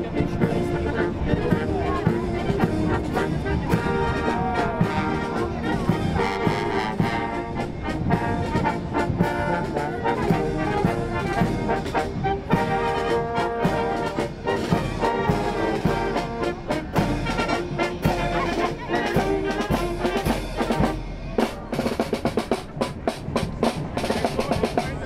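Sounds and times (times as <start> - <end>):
brass band playing a march: 0.0 - 25.0.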